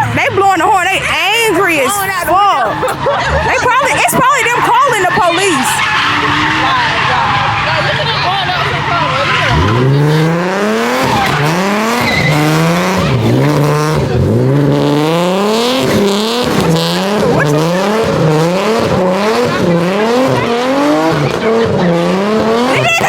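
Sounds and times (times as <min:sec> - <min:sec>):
car engine revving: 0:00.0 - 0:23.0
tires squealing: 0:00.0 - 0:23.0.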